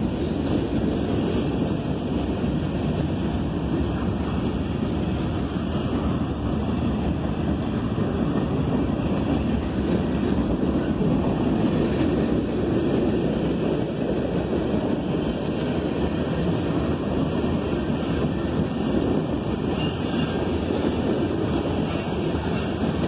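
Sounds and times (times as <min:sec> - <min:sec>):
freight train wheels rumbling on rails: 0:00.0 - 0:23.0.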